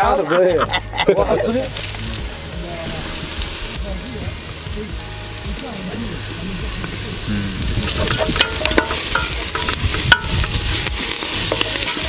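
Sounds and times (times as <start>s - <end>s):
food sizzling in a pot: 1.4s - 12.0s.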